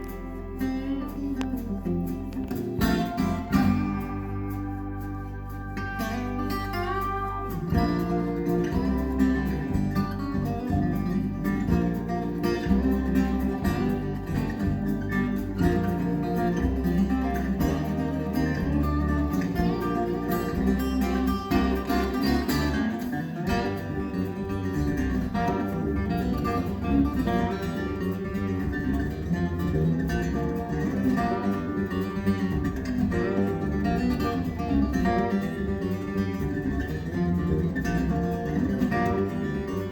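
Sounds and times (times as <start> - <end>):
acoustic guitar music over speakers: 0.0 - 39.9
strong bass notes: 0.0 - 39.9.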